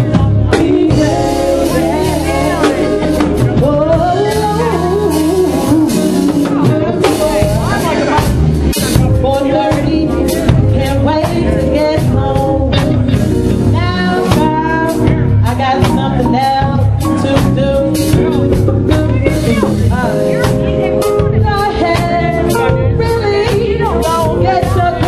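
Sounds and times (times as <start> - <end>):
soul band playing: 0.0 - 25.0
wavering lead melody: 0.0 - 25.0.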